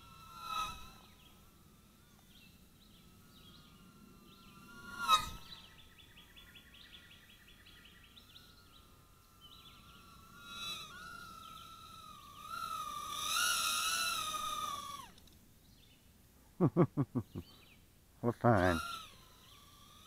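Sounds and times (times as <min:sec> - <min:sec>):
quadcopter motors whining: 0:00.0 - 0:16.0, 0:16.7 - 0:20.0.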